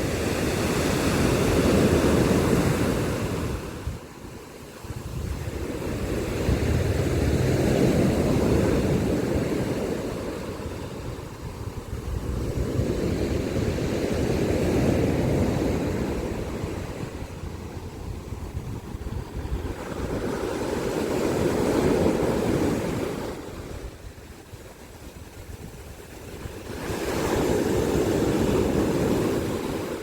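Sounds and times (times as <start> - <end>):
sea waves surging onto shore: 0.0 - 30.0.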